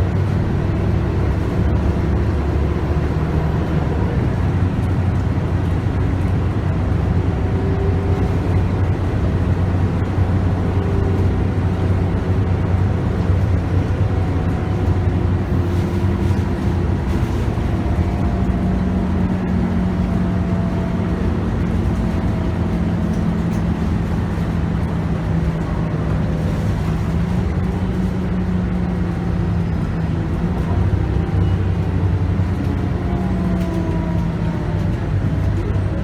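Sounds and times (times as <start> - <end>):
bus engine hum: 0.0 - 36.0
road noise: 0.0 - 36.0.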